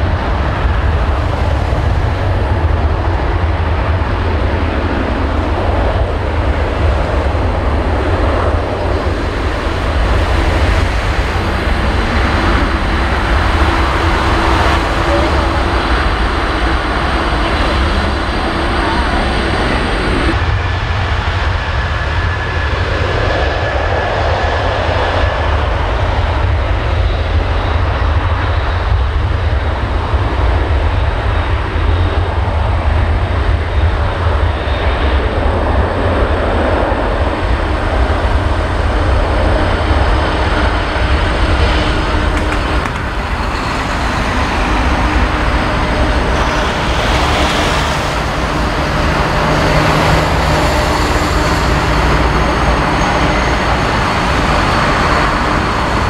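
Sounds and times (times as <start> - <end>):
jet engines roaring at take-off: 0.0 - 56.0.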